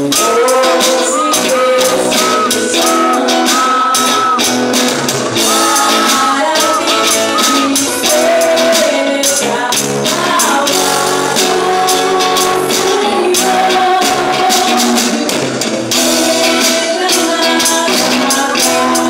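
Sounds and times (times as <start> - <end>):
woman singing: 0.0 - 15.3, 16.0 - 19.0
group singing: 0.0 - 19.0
steady percussion: 0.0 - 19.0
strummed small guitar: 0.0 - 19.0.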